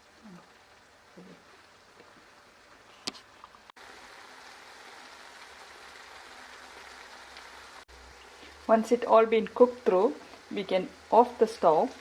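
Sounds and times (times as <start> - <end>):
gravy simmering hiss: 0.0 - 12.0.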